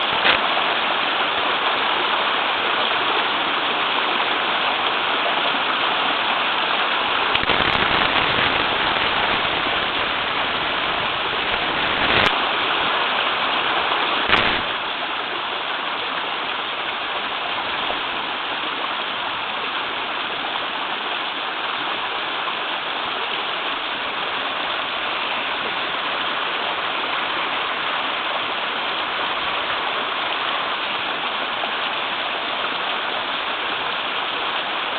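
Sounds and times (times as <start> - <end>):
waterfall rushing and splashing: 0.0 - 34.9.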